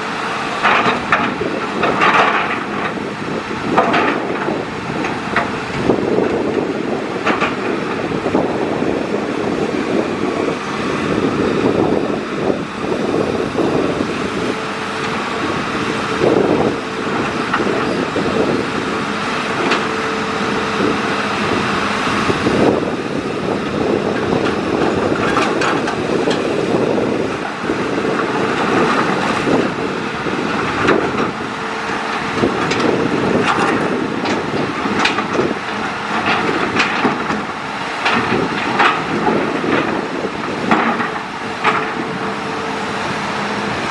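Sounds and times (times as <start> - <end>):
excavator engine and hydraulics: 0.0 - 43.9.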